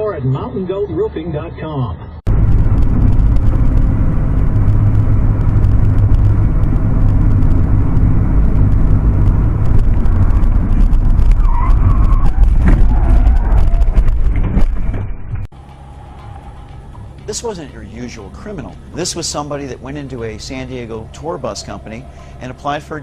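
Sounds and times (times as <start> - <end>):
motor vehicle rumbling: 0.0 - 23.0.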